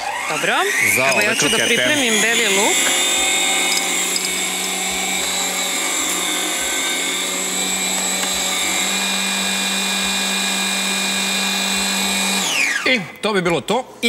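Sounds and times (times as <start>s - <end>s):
meat grinder motor humming: 0.0s - 12.9s.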